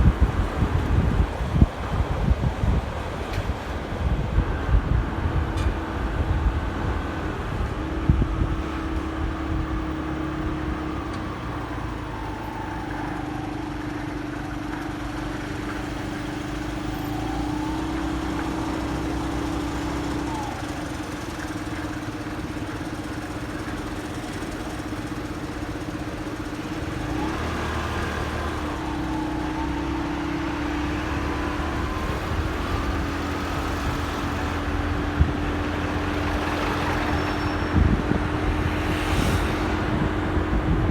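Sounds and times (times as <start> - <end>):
road and traffic rumble: 0.0 - 40.9.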